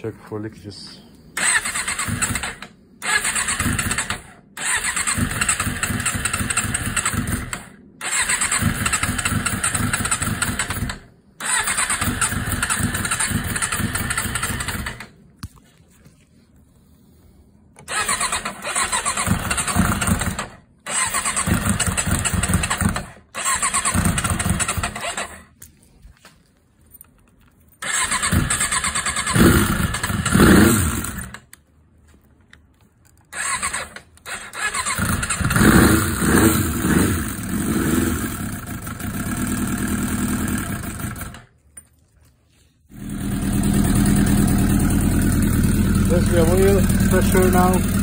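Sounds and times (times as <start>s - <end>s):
motorcycle engine cranking: 1.4s - 15.2s, 17.8s - 25.6s, 27.0s - 31.6s, 33.0s - 41.9s, 42.9s - 48.0s.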